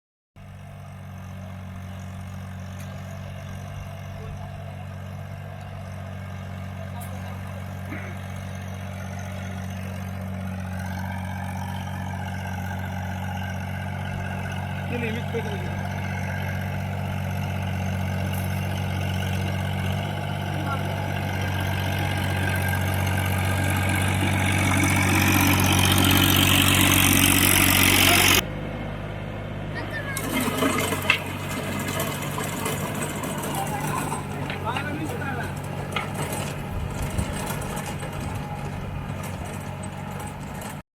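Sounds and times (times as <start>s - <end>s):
tractor diesel engine running: 0.4s - 40.8s.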